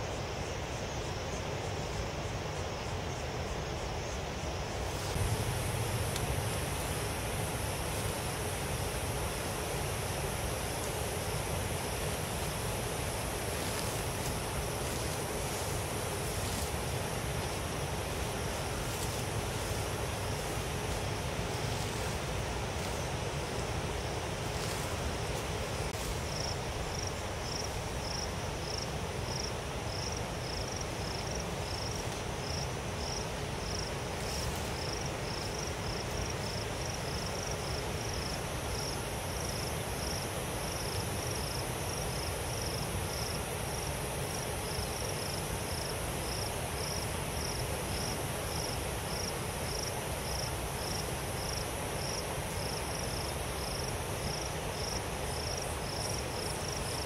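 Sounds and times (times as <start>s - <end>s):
background hiss and low rumble: 0.0s - 57.0s
cricket chirping: 0.0s - 57.0s.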